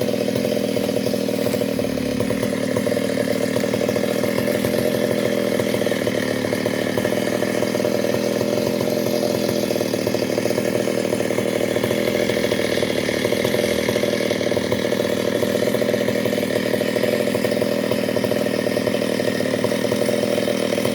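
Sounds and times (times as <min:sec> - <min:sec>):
chainsaw cutting log: 0:00.0 - 0:20.9.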